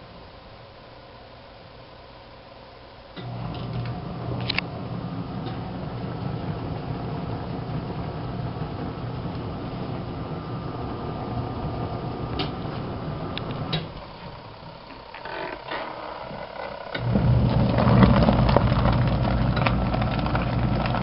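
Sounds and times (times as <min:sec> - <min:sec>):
washing machine motor humming: 0:03.2 - 0:21.0.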